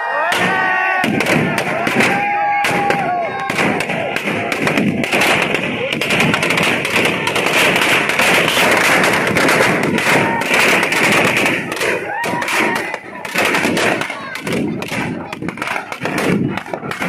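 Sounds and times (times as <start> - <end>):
firecrackers cracking and banging: 0.2 - 17.0.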